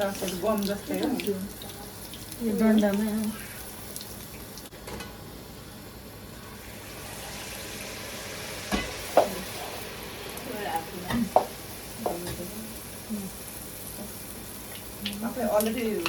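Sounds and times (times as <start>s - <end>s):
dough deep-frying in sizzling oil: 0.0s - 16.0s.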